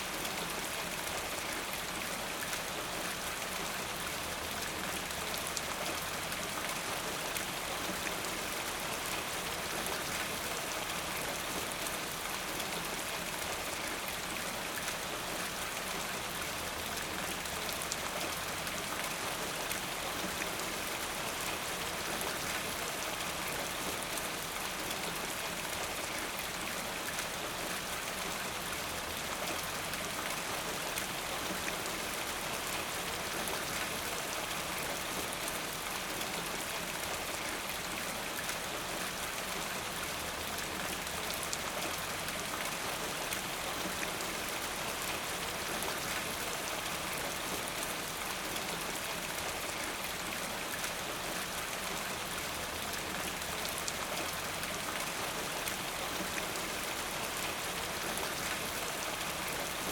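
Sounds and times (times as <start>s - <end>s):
rain hitting a surface: 0.0s - 59.9s.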